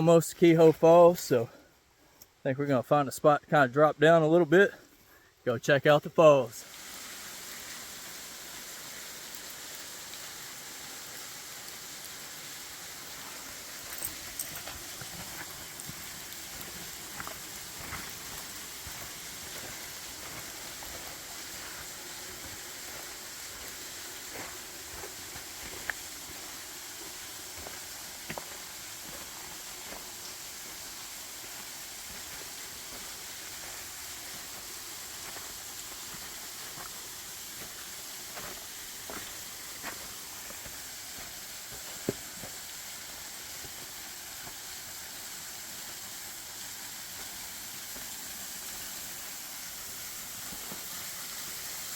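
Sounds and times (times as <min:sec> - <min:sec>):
creek water rushing: 0:00.0 - 0:01.8, 0:04.0 - 0:51.9.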